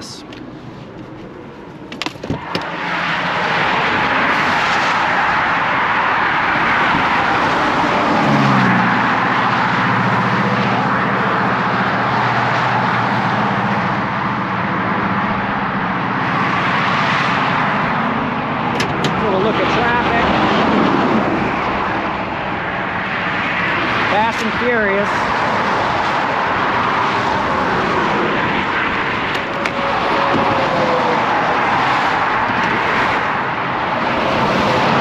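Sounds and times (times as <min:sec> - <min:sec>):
engine drone: 0:00.0 - 0:35.0
fast traffic roaring past: 0:00.0 - 0:35.0.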